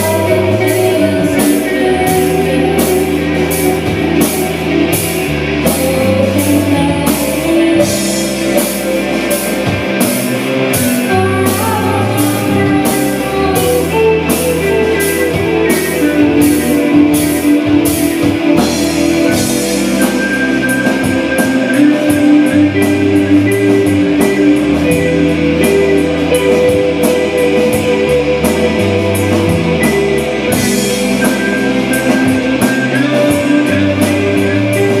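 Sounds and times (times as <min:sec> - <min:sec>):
rock music: 0:00.0 - 0:35.0.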